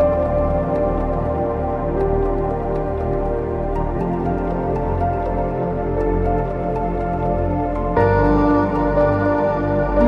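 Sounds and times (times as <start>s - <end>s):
calm new-age music: 0.0s - 10.0s.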